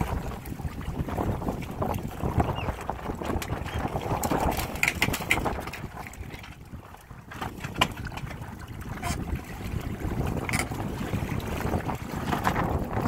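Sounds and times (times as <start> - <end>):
water splashing against hulls: 0.0 - 13.0
wind noise: 0.0 - 13.0.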